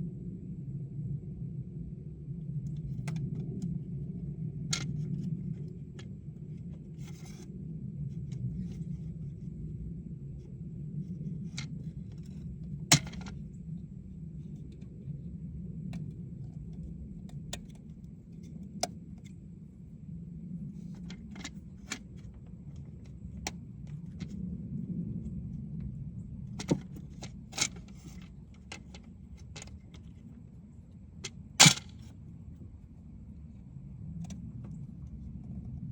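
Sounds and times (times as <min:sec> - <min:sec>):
steady low rumble: 0:00.0 - 0:35.9.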